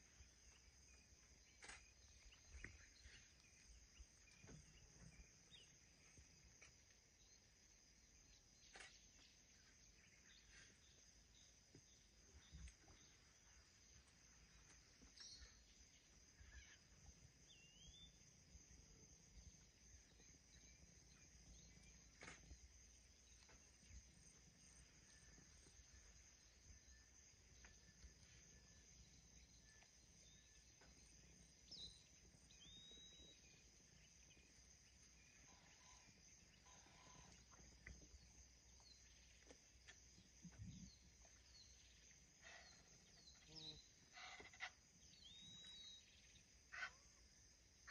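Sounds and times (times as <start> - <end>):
faint bird chirps: 0.0 - 18.3, 19.3 - 47.2.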